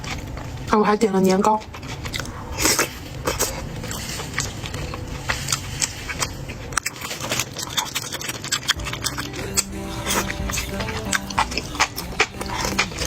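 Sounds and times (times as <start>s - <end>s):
person chewing food: 1.5s - 13.0s.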